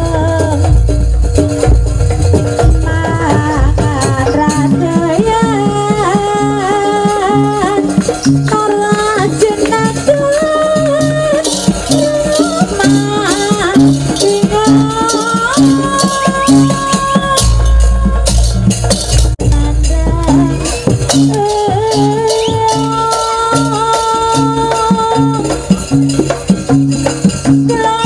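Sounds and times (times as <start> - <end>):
drumming: 0.0 - 28.0.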